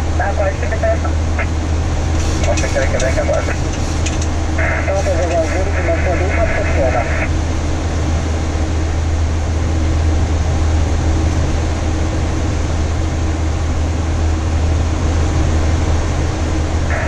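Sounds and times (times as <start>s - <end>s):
low jet engine hum: 0.0s - 17.0s
rushing airflow and air-conditioning: 0.0s - 17.0s.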